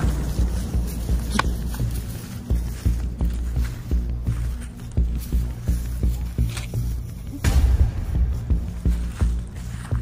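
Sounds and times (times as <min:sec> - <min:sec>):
music with low beat: 0:00.0 - 0:10.0.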